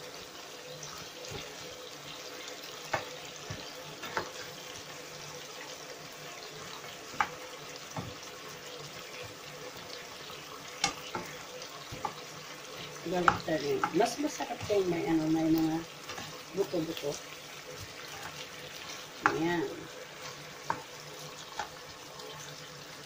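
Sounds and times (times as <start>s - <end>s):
meat hissing in a pan: 0.0s - 23.0s.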